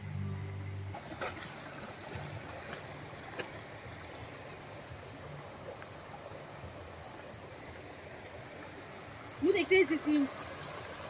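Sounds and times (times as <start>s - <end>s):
stream running over rocks: 0.8s - 11.0s.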